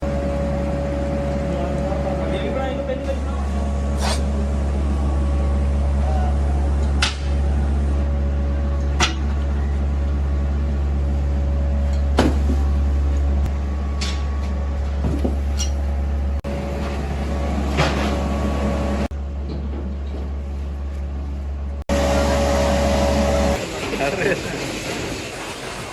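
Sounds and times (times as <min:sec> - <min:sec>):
workshop machinery humming: 0:00.0 - 0:25.9.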